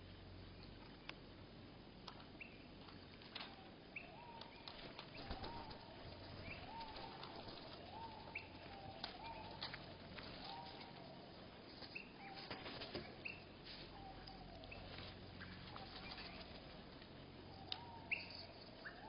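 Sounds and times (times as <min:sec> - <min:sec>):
slowed bird calls: 0:03.4 - 0:19.0.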